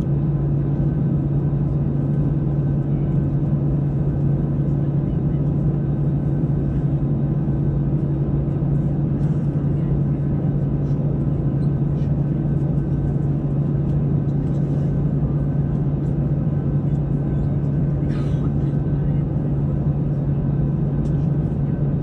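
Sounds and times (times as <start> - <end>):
jet cabin drone: 0.0 - 22.0.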